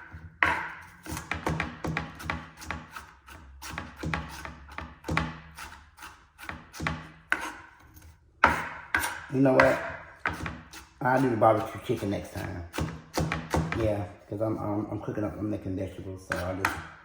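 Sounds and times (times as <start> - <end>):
knife chopping on cutting board: 0.0 - 7.8, 8.4 - 14.0, 16.3 - 17.0.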